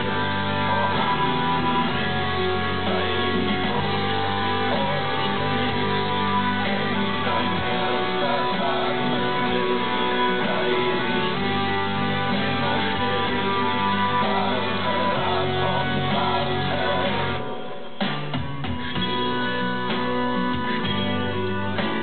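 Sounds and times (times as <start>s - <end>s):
band song with guitars: 0.0s - 22.0s.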